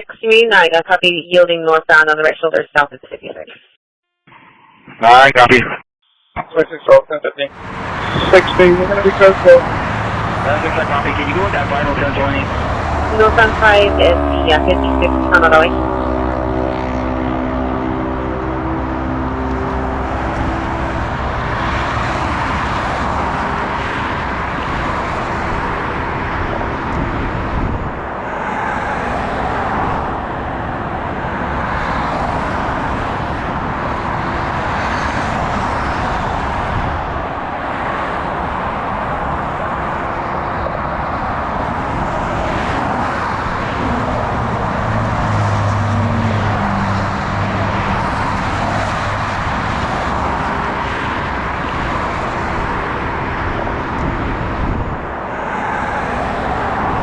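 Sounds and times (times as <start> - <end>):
freeway traffic: 7.5 - 57.0
low engine hum: 7.6 - 57.0.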